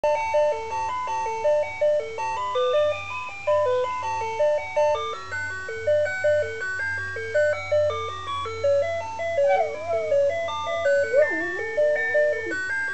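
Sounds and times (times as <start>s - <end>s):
alarm clock beeping melody: 0.1s - 12.9s.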